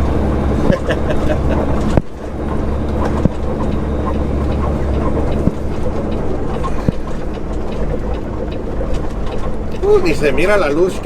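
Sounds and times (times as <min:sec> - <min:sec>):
truck diesel engine rumble: 0:00.0 - 0:11.0
sharp knocks and rattles: 0:00.6 - 0:11.0.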